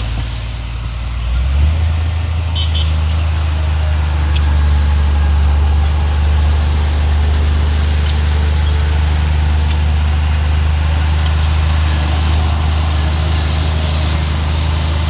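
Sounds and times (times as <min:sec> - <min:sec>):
heavy diesel engine revving: 0:00.0 - 0:15.0.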